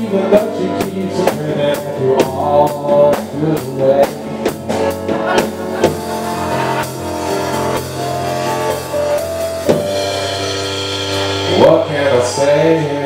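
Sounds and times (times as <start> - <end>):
electronic piano chords: 0.0 - 13.0.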